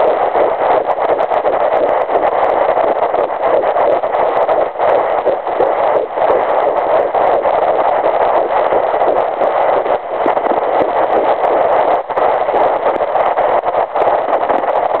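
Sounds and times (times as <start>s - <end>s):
doppler whooshing heartbeat: 0.0s - 15.0s.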